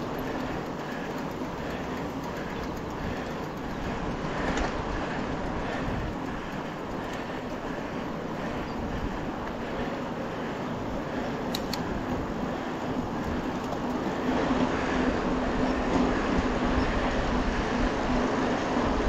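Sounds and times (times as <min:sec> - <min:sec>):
bike rattling: 0:00.0 - 0:19.0
tyres rumbling on dirt trail: 0:00.0 - 0:19.0
wind: 0:00.0 - 0:19.0.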